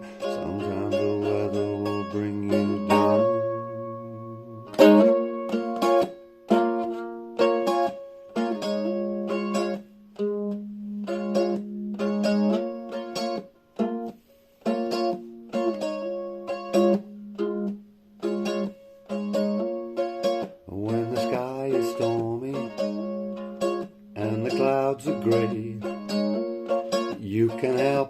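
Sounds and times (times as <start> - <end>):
plucked string instrument chords: 0.0 - 28.0.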